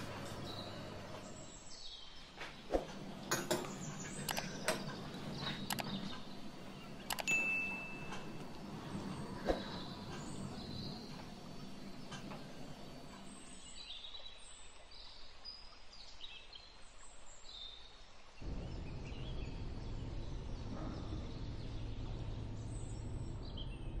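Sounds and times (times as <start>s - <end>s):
steady background hum: 0.0s - 13.8s, 18.4s - 24.0s
small birds chirping: 0.0s - 24.0s.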